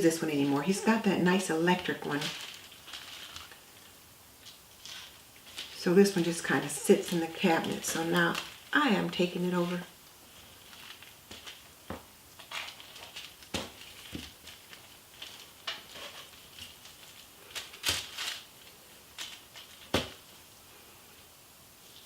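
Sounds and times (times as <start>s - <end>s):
scraping and paper crinkling: 0.0s - 20.5s.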